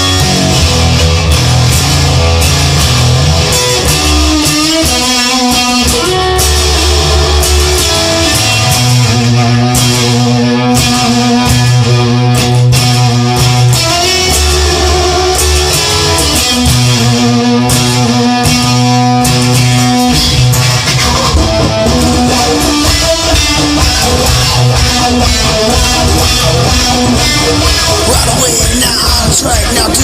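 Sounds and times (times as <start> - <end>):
instrumental rock music: 0.0 - 30.0.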